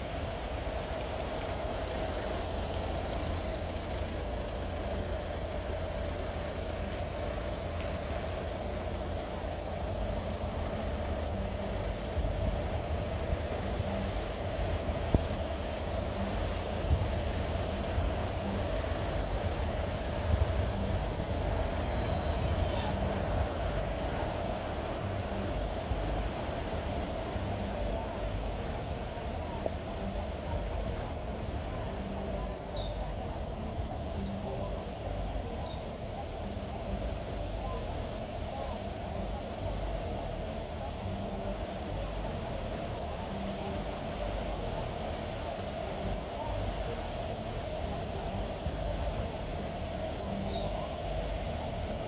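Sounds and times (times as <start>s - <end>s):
wind rumble on microphone: 0.0s - 52.0s.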